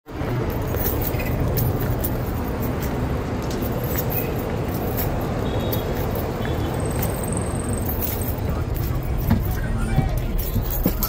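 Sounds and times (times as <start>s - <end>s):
road vehicle rumble: 0.1s - 11.0s.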